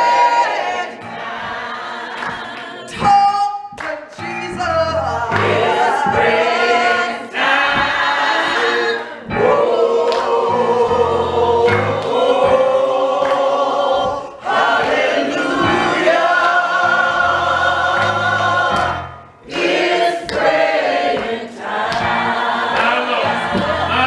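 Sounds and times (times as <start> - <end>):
gospel choir singing: 0.0 - 24.0
keyboard accompaniment: 0.0 - 24.0.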